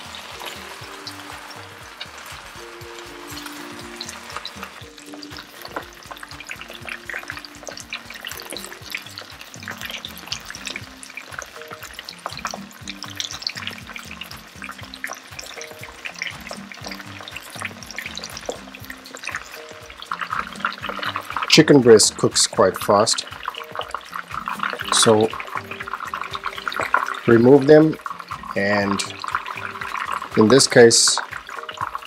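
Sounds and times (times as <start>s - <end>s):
chicken frying in hot oil: 0.0s - 32.0s.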